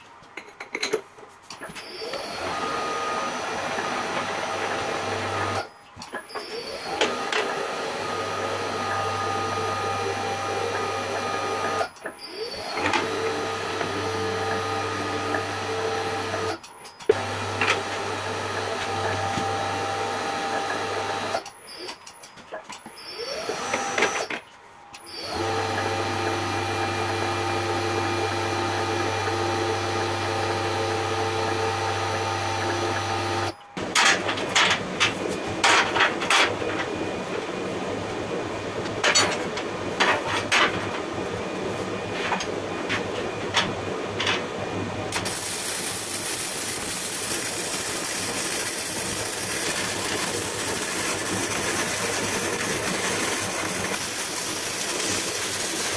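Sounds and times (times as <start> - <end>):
machine motor humming and whining: 1.7 - 22.1, 22.8 - 35.4, 40.8 - 55.9.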